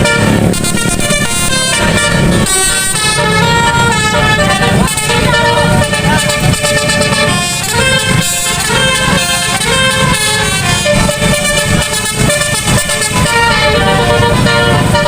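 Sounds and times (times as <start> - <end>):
bus engine running: 0.0 - 15.0
musical air horn tune: 0.0 - 15.0.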